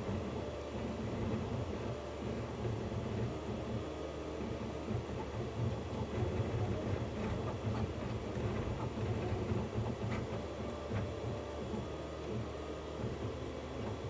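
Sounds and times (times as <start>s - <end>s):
printer motors whirring: 0.0s - 14.0s.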